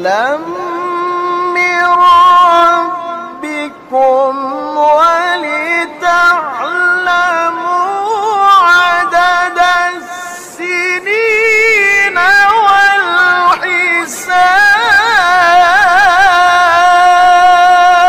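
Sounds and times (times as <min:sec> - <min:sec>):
man chanting melodic recitation: 0:00.0 - 0:18.0.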